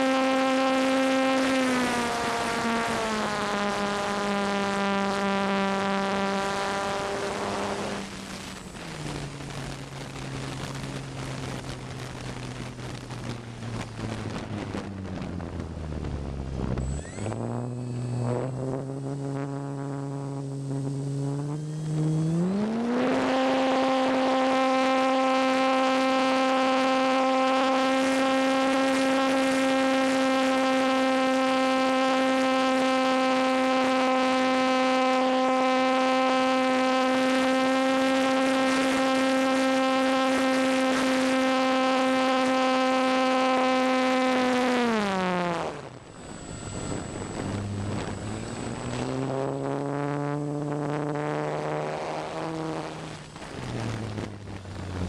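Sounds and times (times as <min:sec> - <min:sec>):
model plane motor whine: 0:00.0 - 0:55.0.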